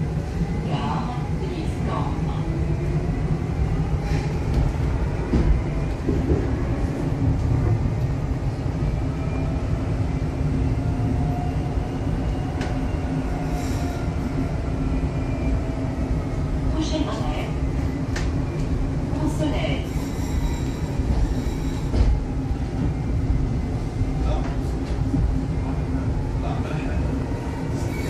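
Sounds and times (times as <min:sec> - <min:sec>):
metro train low rumble: 0:00.0 - 0:28.0.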